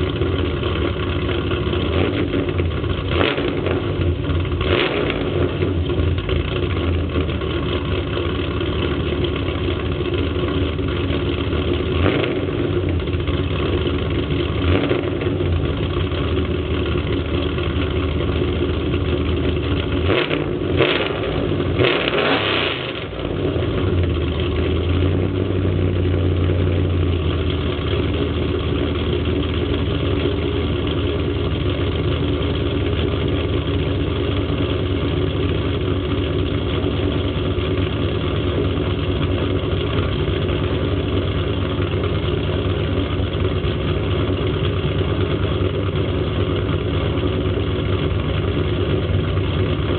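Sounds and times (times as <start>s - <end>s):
engine revving and idling: 0.0s - 49.9s.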